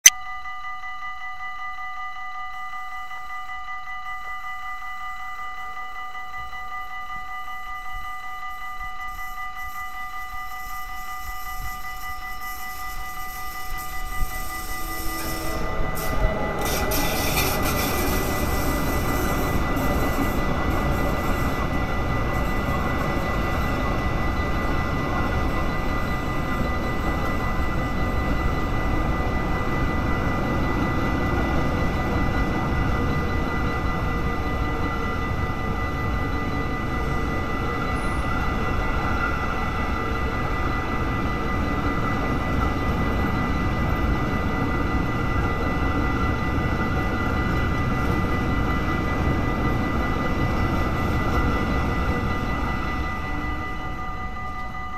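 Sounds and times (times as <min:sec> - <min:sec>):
level-crossing warning bell: 0:00.0 - 0:54.9
electric locomotive passing: 0:00.3 - 0:54.9
train wheels rumbling on rails: 0:08.0 - 0:54.9.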